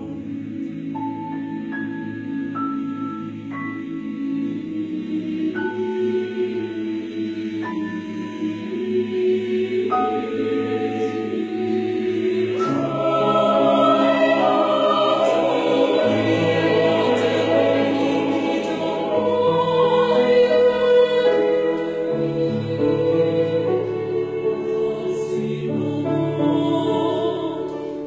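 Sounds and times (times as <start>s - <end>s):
choir singing in harmony: 0.0s - 28.0s
piano accompaniment: 0.0s - 28.0s.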